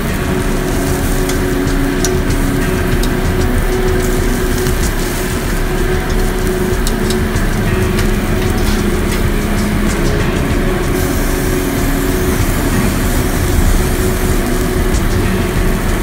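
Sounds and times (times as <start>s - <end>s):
fat popping and crackling: 0.0s - 16.0s
steaks sizzling on a grill: 0.0s - 16.0s.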